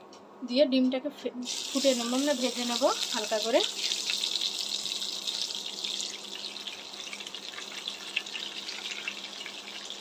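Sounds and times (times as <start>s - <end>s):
eggs sizzling in hot oil: 1.4s - 10.0s.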